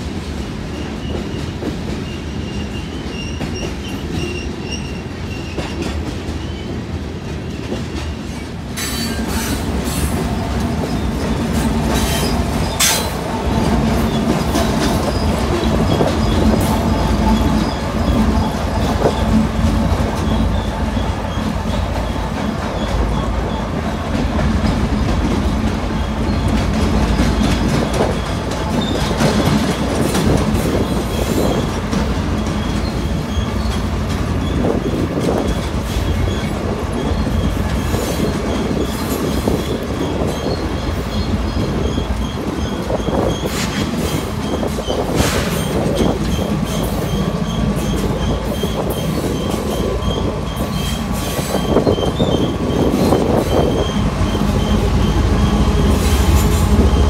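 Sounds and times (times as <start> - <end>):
diesel locomotive rumble: 0.0 - 57.0
train wheels clicking on rails: 0.0 - 57.0.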